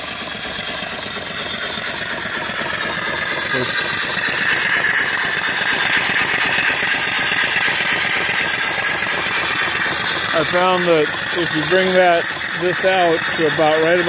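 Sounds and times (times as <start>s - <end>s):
steam engine exhaust beats: 0.0s - 14.0s.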